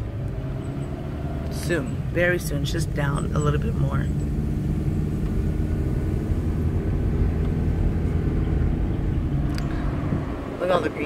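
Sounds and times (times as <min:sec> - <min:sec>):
car engine humming: 0:00.0 - 0:11.0
road rumble: 0:00.0 - 0:11.0.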